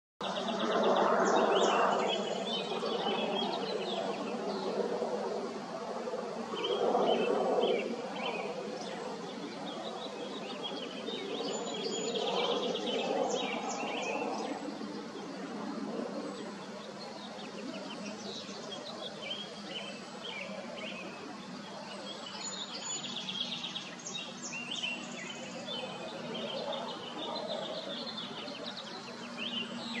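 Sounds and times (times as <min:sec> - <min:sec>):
outdoor background hiss and hum: 0:00.2 - 0:30.0.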